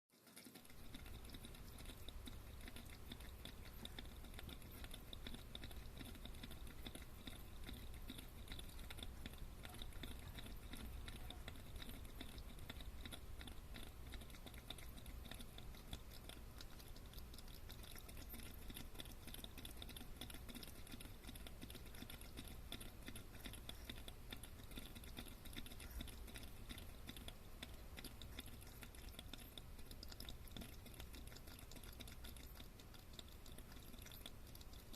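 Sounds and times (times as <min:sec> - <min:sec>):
crab crackling clicks: 0:00.2 - 0:34.9.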